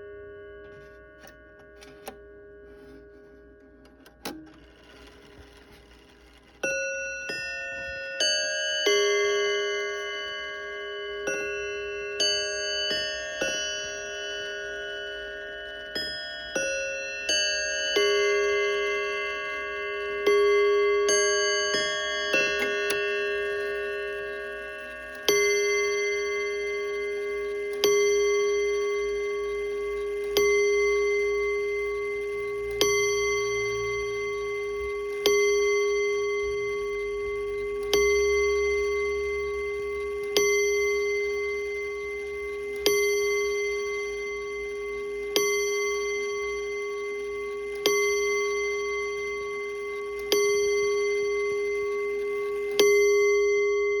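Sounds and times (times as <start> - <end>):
clock chime: 0.0 - 54.0
clock bell striking: 4.2 - 54.0.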